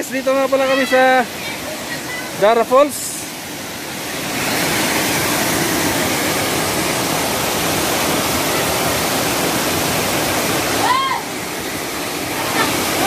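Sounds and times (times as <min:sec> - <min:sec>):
waterfall pouring over rocks: 0:00.0 - 0:13.0.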